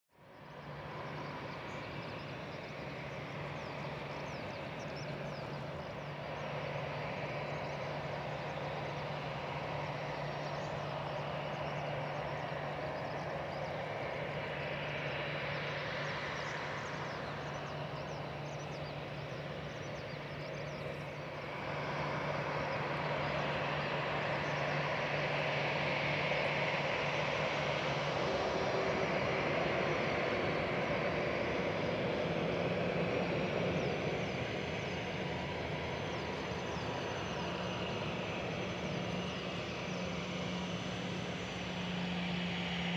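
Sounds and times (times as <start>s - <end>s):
jet engines running: 0.2s - 42.9s.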